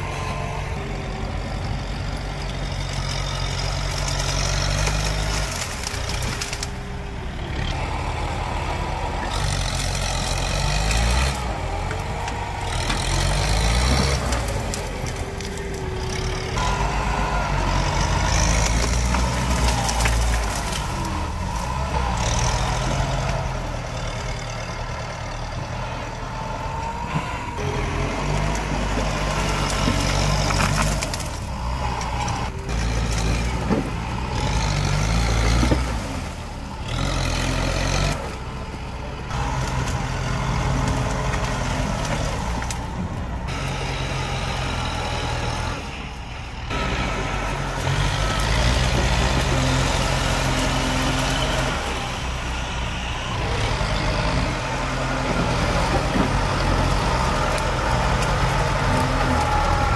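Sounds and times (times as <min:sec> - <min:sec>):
tractor diesel engine under load: 0:00.0 - 0:59.9
branches cracking: 0:02.7 - 0:07.7, 0:09.3 - 0:24.5, 0:26.9 - 0:38.5, 0:39.3 - 0:45.7, 0:46.8 - 0:59.9.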